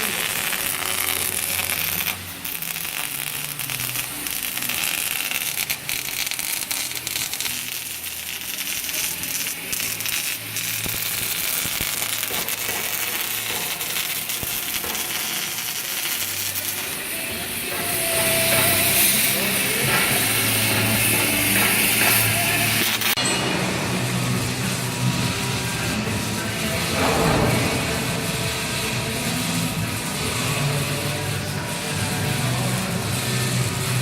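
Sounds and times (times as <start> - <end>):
arc welding crackling: 0.0 - 34.0.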